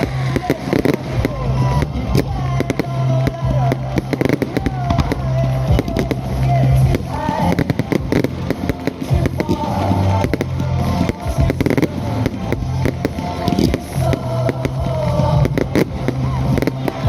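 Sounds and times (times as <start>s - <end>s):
fireworks crackling and banging: 0.0s - 17.0s
music playing: 0.0s - 17.0s.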